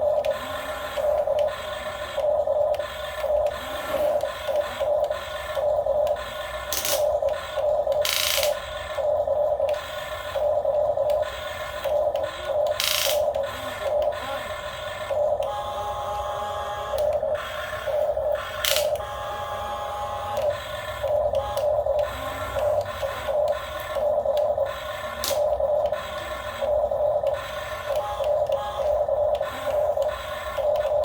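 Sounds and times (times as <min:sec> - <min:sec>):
small electric motor whining: 0:00.0 - 0:31.0.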